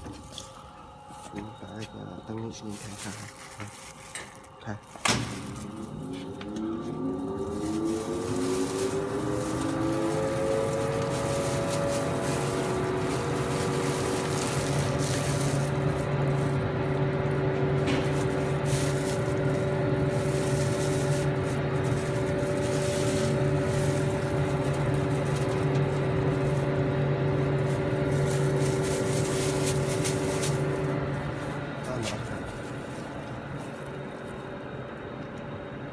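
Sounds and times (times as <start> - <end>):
oven motors and fans humming: 0.0 - 35.9.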